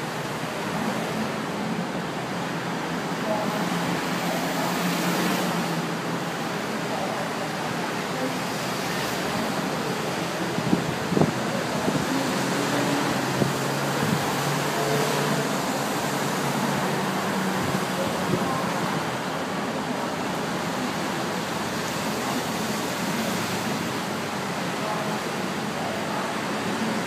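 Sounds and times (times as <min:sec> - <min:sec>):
outdoor background noise: 0:00.0 - 0:27.0
faint distant voices: 0:00.2 - 0:27.0.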